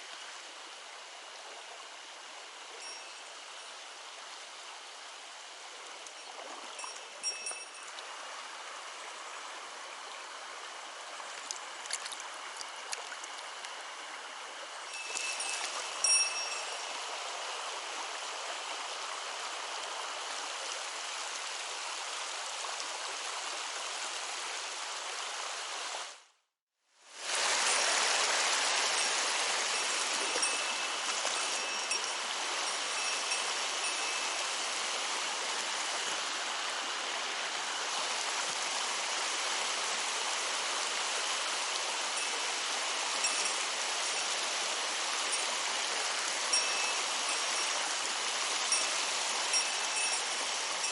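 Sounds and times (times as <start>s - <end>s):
stream water rushing: 0.0s - 26.3s, 27.1s - 50.9s.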